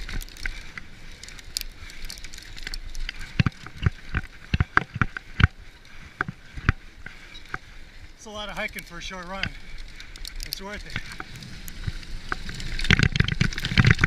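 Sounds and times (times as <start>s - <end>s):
bike clunking and rattling: 0.0s - 7.7s, 8.5s - 14.0s.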